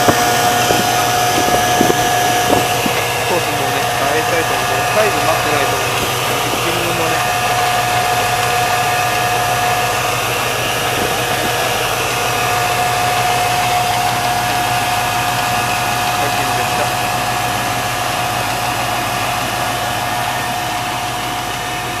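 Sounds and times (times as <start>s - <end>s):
car engine idling with whine: 0.0s - 22.0s.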